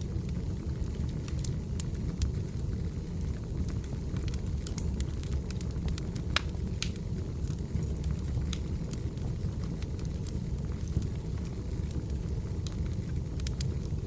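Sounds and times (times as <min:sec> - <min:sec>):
fire flames rumbling: 0:00.0 - 0:14.0
firewood crackling and popping: 0:00.0 - 0:14.0.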